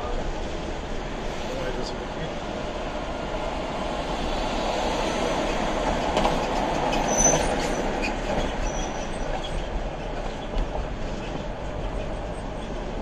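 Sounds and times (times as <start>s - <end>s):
road and tyre noise in car: 0.0s - 13.0s.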